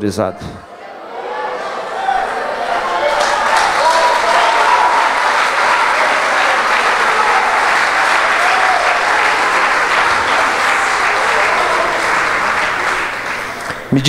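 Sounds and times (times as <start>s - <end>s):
congregation applauding: 1.2s - 14.0s.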